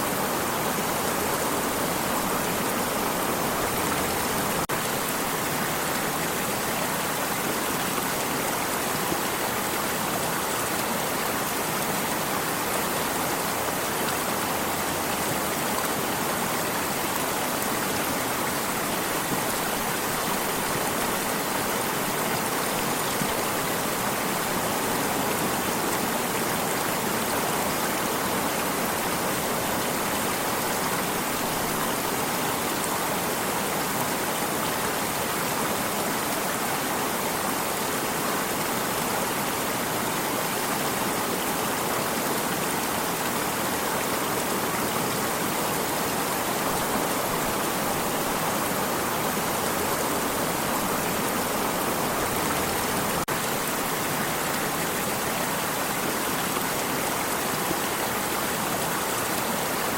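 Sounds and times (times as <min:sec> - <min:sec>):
stream of water running: 0:00.0 - 0:59.9.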